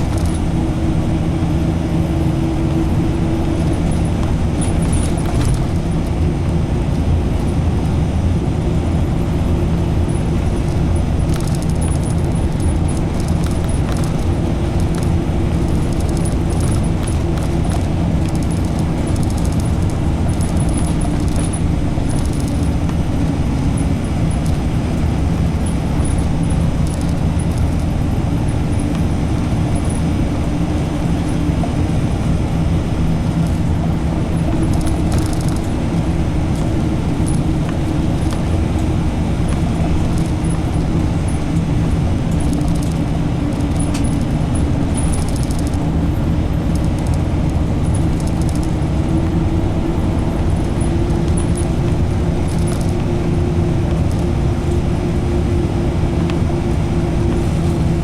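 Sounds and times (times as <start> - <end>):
bus engine drone: 0.0 - 58.0
tyre and road noise: 0.0 - 58.0.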